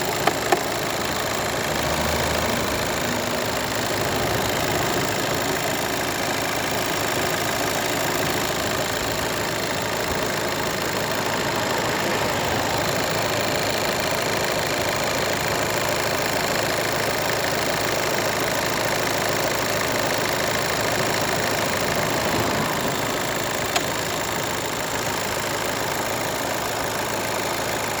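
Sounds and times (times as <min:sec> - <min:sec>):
diesel engine idling with knocking: 0:00.0 - 0:28.0.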